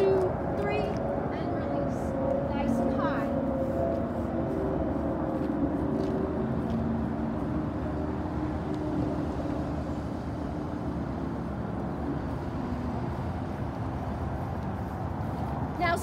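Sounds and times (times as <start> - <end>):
road traffic rumble: 0.0 - 16.0
vehicle engine hum: 0.0 - 16.0.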